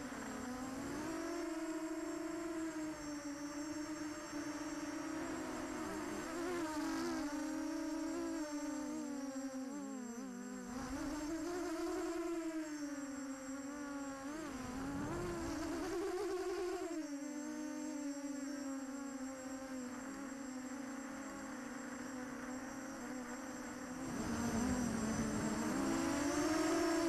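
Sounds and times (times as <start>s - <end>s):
quadcopter motors buzzing: 0.0s - 27.0s.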